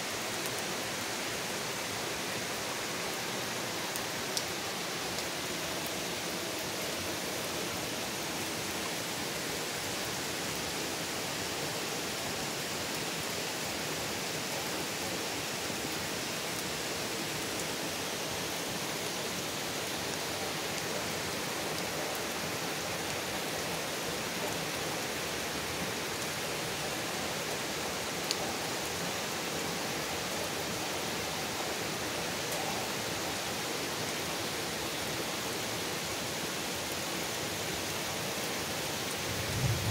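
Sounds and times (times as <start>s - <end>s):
rain on trees and grass: 0.0s - 39.9s.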